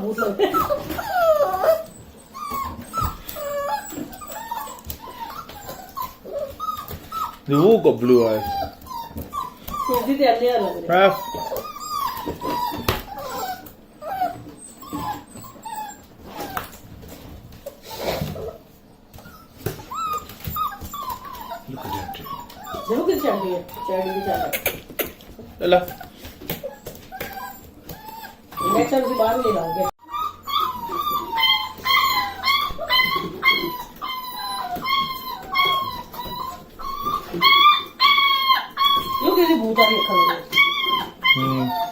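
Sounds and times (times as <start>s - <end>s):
puppies whimpering and yipping: 0.0s - 41.9s.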